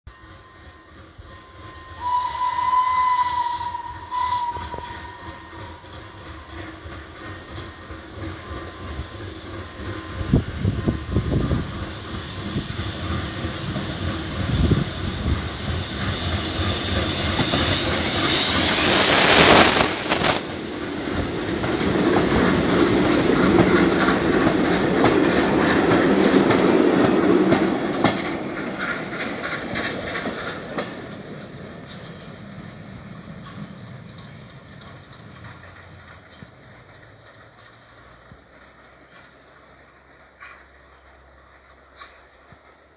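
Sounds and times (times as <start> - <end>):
steam locomotive hiss: 0.2 - 42.9
wheels clattering over rail joints: 5.8 - 42.9.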